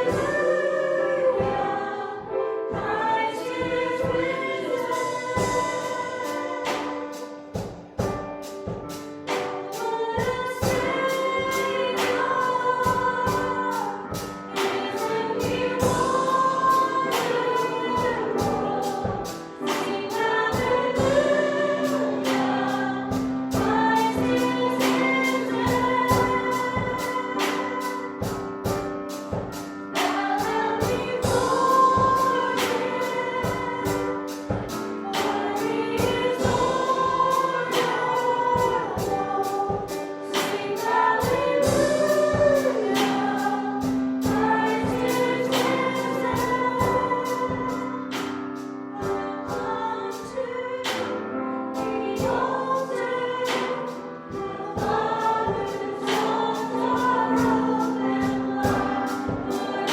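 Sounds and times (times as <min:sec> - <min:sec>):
group singing worship song: 0:00.0 - 0:59.9
band accompaniment: 0:02.7 - 0:51.2, 0:51.8 - 0:59.9
steady drum beat: 0:02.8 - 0:49.8, 0:52.2 - 0:59.9.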